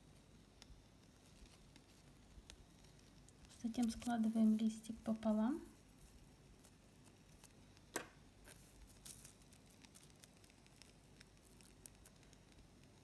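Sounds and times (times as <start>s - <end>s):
ribbon being folded: 0.0s - 13.0s.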